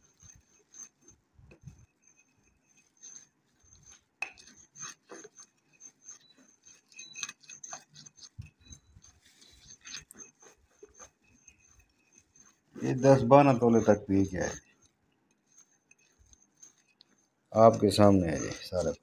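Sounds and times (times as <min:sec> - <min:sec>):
pestle grinding in a mortar: 0:00.0 - 0:19.0.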